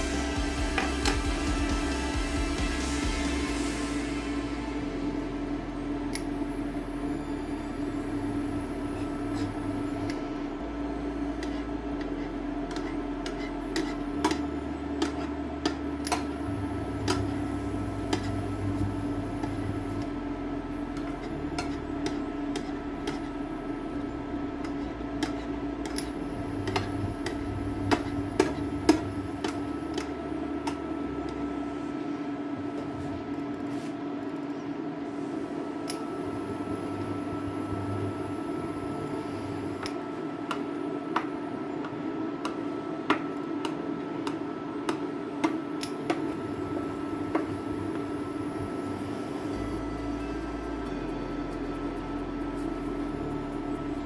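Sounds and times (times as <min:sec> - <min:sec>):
induction hob humming: 0:00.0 - 0:54.0.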